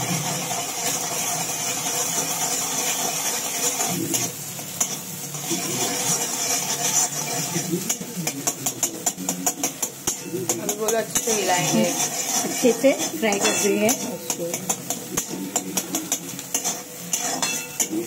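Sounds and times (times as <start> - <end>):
egg sizzling in hot oil: 0.0 - 18.0
spatula scraping a wok: 0.0 - 18.0.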